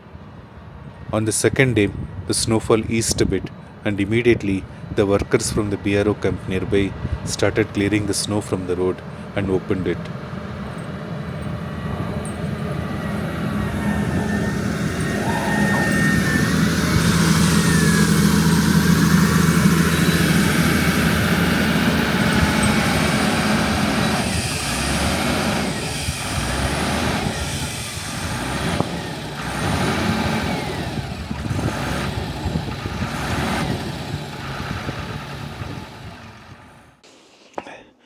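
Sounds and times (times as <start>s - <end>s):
heavy diesel engine running: 3.1s - 37.0s.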